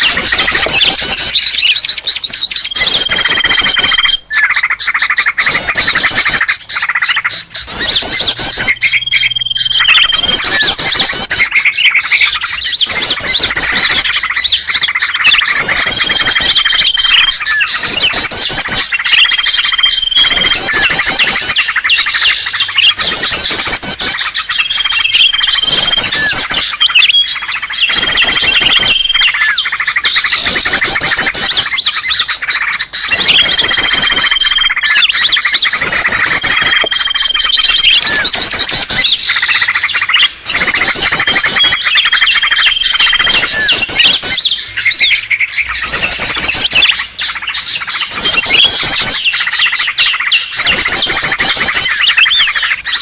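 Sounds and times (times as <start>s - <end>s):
bird chattering warble: 0.0s - 53.0s
bird whistled notes: 0.0s - 53.0s.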